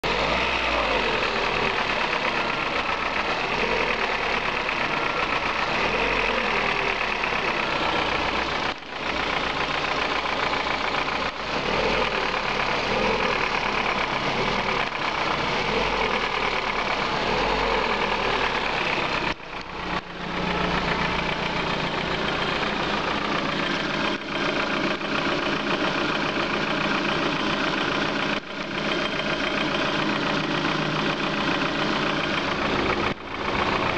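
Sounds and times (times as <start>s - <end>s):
car engine idling with knock: 0.0s - 33.9s.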